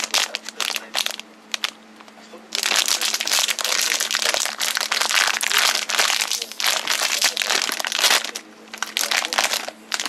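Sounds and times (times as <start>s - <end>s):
foil wrapper crinkling: 0.0s - 1.8s, 2.6s - 10.0s.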